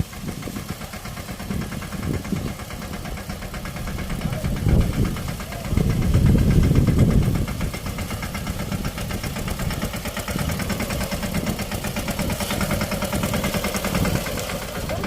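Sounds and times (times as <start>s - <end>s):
small tractor engine pulsing: 0.0s - 15.0s.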